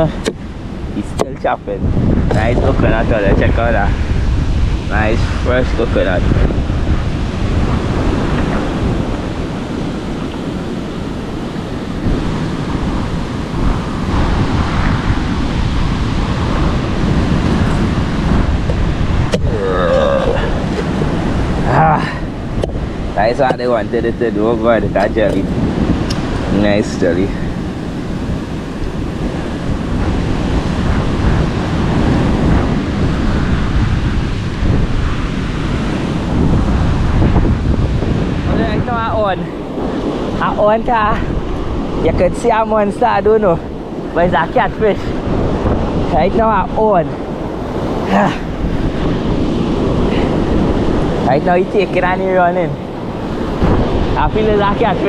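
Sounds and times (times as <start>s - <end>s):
waves washing onto shore: 0.0s - 55.0s
wind buffeting microphone: 0.0s - 55.0s.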